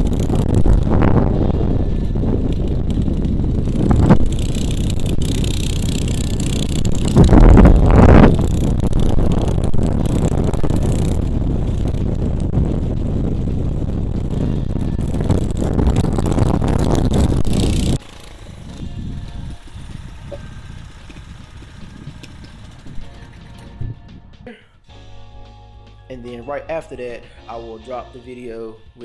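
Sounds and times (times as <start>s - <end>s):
small motorbike engine running: 0.0s - 23.8s
wind buffeting microphone: 0.0s - 24.5s.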